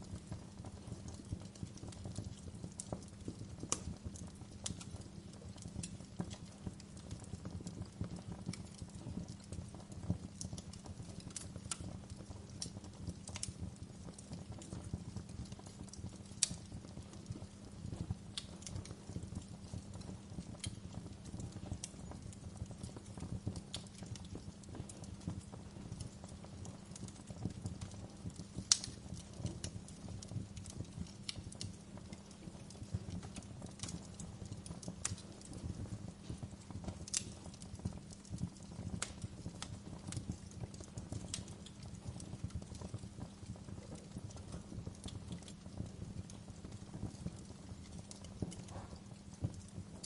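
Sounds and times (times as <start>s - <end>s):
fire crackling: 0.0s - 50.0s
fire popping: 0.0s - 50.0s.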